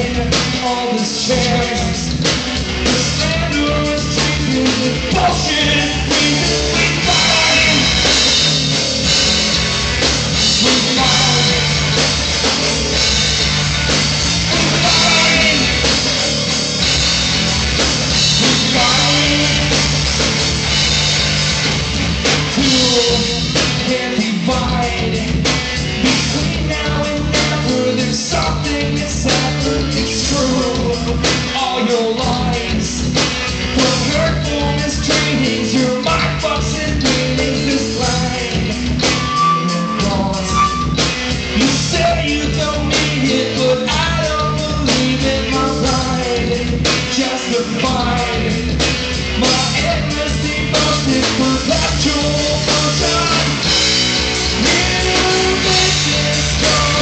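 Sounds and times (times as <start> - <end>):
driving drum kit: 0.0 - 57.0
electric guitars: 0.0 - 57.0.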